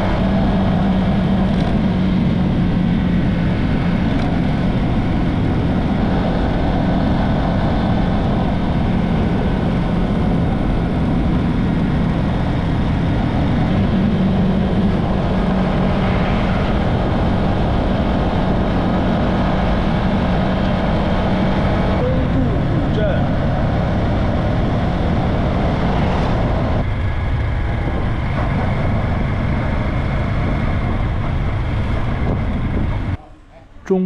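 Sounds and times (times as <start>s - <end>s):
wind noise on microphone: 0.0s - 33.9s
motorcycle engine hum: 0.0s - 34.0s.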